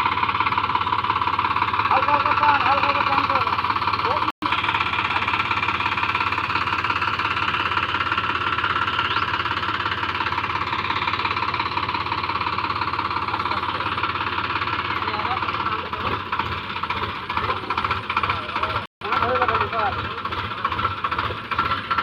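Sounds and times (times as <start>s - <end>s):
tractor diesel engine knocking: 0.0s - 22.0s.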